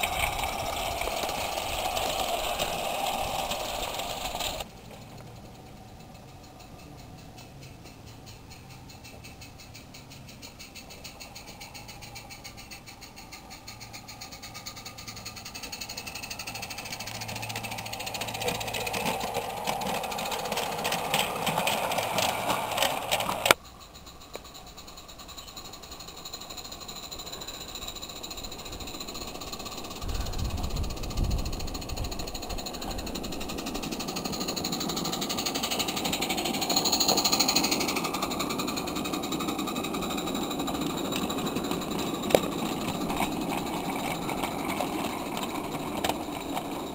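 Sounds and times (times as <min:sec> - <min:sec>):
steam locomotive chuffing: 0:00.0 - 0:46.9.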